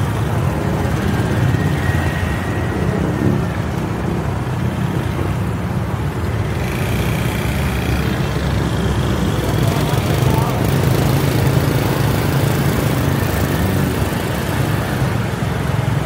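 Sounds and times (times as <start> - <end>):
car driving in traffic: 0.0 - 16.0.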